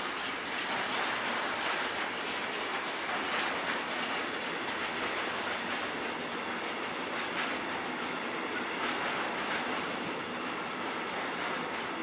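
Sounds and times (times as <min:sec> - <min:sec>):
steel wheels rumbling on rail: 0:00.0 - 0:12.0
wheels clacking over rail joints: 0:00.0 - 0:12.0.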